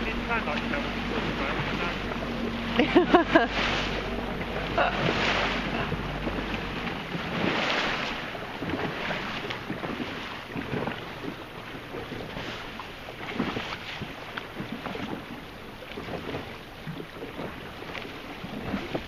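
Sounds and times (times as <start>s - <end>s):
water splashing around boat: 0.0s - 19.0s.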